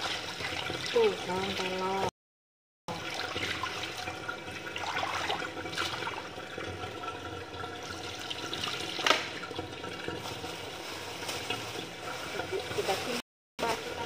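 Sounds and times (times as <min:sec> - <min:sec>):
hose water splashing on tiles: 0:00.0 - 0:02.1, 0:02.9 - 0:14.0.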